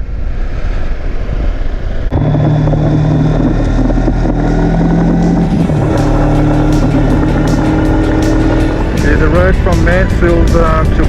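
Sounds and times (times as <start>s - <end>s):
wind rush: 0.0s - 11.0s
motorcycle engine running: 2.1s - 11.0s.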